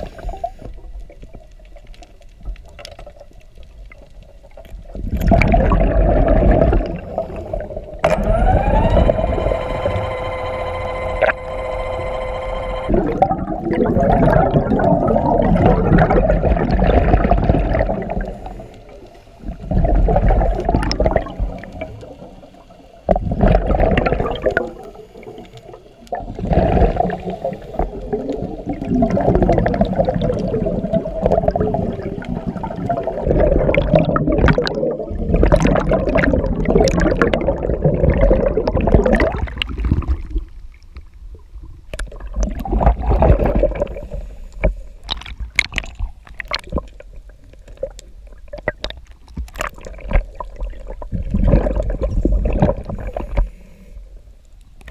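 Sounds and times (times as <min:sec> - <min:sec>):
air bubbles gurgling underwater: 0:00.0 - 0:09.8, 0:12.9 - 0:40.6, 0:41.3 - 0:53.7.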